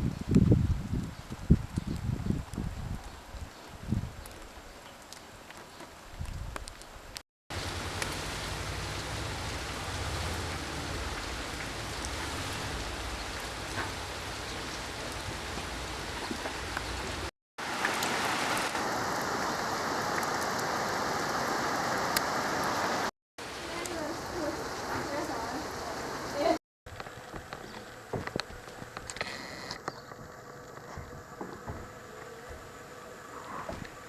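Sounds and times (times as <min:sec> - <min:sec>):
rain pattering on surfaces: 0:00.2 - 0:29.2.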